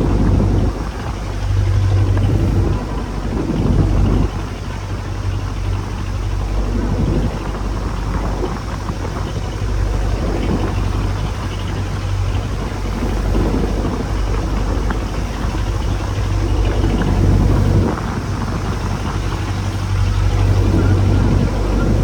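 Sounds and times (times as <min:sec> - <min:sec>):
boat engine running: 0:00.0 - 0:22.0
waves: 0:00.0 - 0:22.0
wind: 0:00.0 - 0:22.0.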